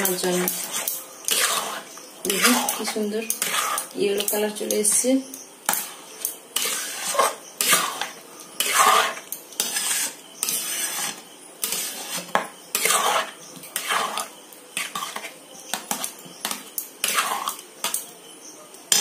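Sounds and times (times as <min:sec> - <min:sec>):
metal spatula scraping pan: 0:00.0 - 0:05.1, 0:05.7 - 0:18.1.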